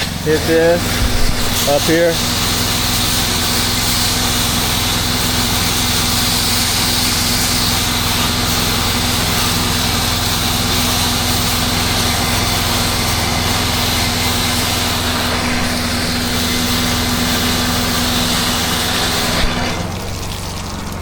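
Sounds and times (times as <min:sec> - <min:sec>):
small gas engine running: 0:00.0 - 0:21.0
water spraying hiss: 0:00.0 - 0:21.0.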